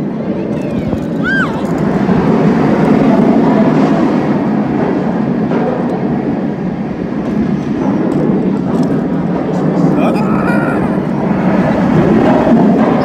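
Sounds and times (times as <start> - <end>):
roller coaster wheels rumbling: 0.0 - 13.0
wind on microphone: 0.0 - 13.0.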